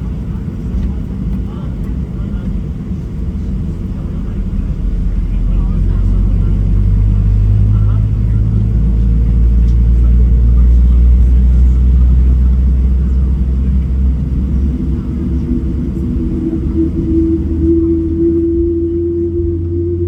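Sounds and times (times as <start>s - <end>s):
droning hum: 0.0s - 20.0s
jet engine cabin rumble: 0.0s - 20.0s.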